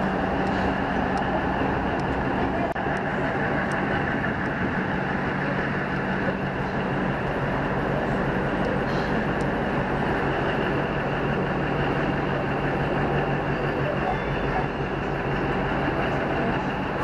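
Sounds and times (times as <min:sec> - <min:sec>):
train diesel engine droning: 0:00.0 - 0:17.0.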